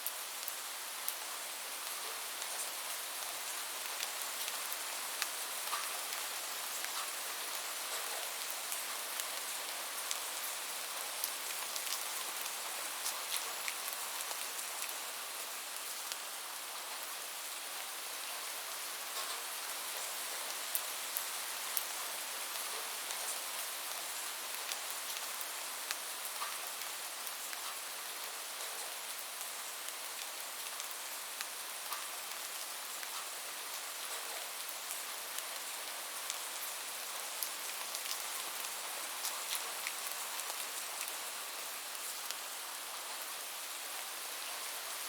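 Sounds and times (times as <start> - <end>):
raindrops ticking on a surface: 0.0 - 45.0
steady rain hiss: 0.0 - 45.0.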